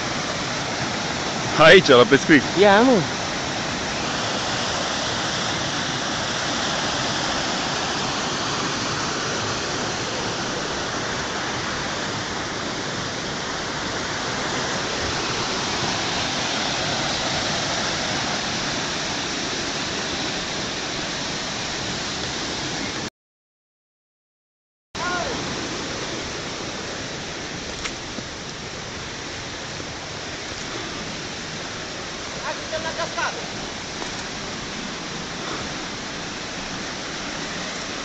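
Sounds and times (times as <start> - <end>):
stream rushing over boulders: 0.0 - 23.1, 25.0 - 38.0.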